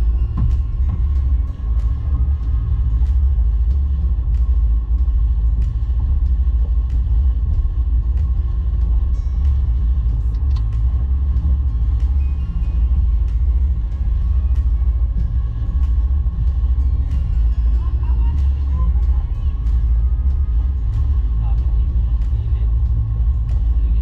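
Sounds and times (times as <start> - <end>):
boat motor rumbling: 0.0 - 24.0
faint steady whine: 0.0 - 24.0.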